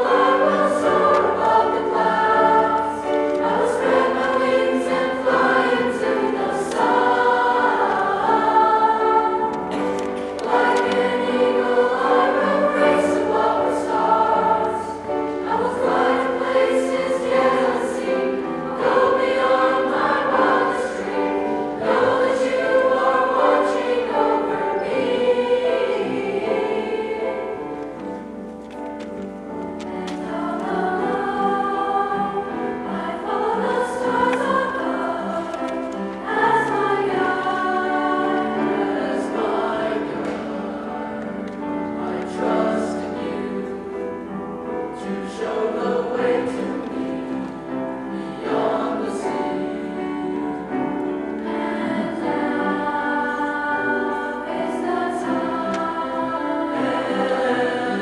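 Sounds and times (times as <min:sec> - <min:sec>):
choir singing in parts: 0:00.0 - 0:58.0.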